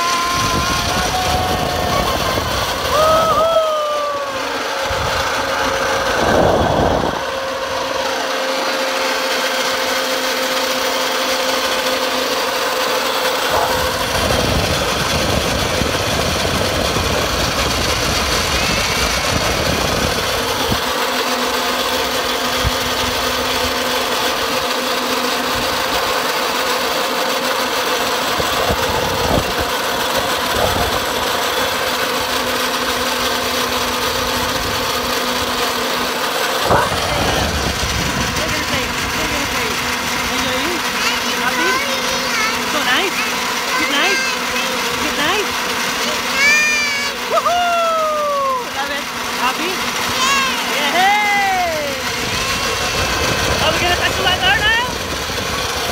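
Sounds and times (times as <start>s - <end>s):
zipline pulleys whirring on cable: 0.0s - 55.9s.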